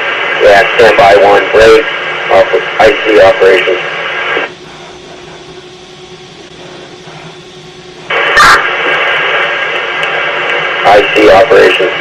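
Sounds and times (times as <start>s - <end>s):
faint radio hiss with hum: 0.0s - 12.0s
radio static hiss: 0.0s - 12.0s.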